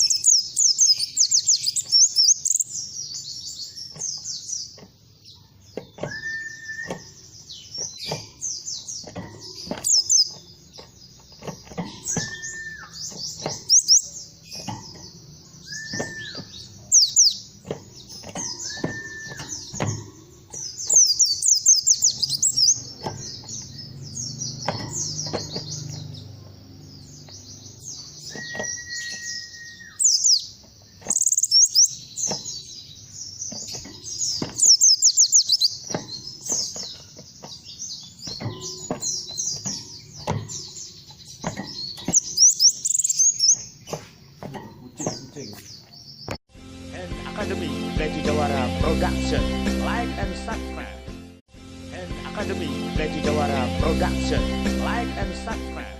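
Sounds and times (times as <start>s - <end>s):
high twittering bird chirps: 0.0s - 46.4s.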